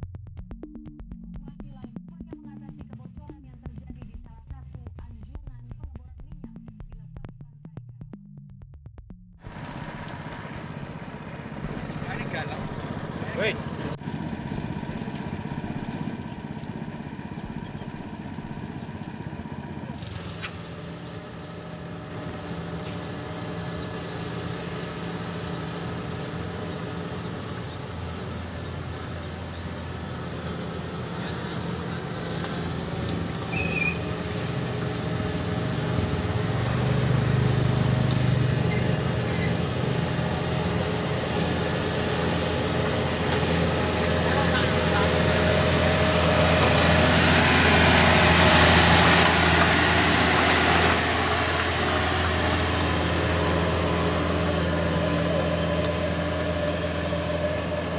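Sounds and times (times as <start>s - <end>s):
combine harvester diesel engine: 9.4s - 57.9s.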